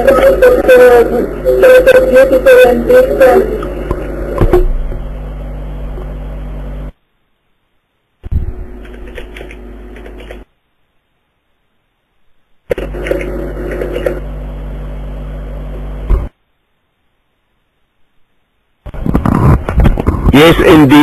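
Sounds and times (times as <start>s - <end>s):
microphone electrical hum: 0.0s - 21.0s.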